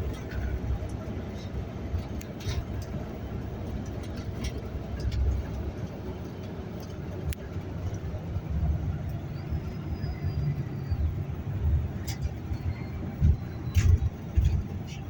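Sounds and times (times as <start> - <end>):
vehicle rumbling in motion: 0.0 - 15.0.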